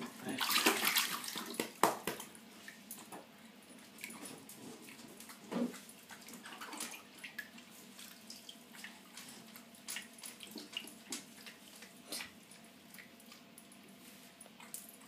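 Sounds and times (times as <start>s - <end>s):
bath water splashing: 0.2s - 2.9s, 3.9s - 13.5s.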